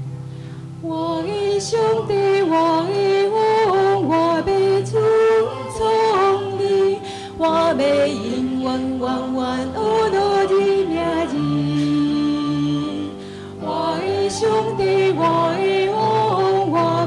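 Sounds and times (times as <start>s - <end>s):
sustained musical accompaniment: 0.0s - 17.0s
woman singing into a microphone: 0.8s - 17.0s.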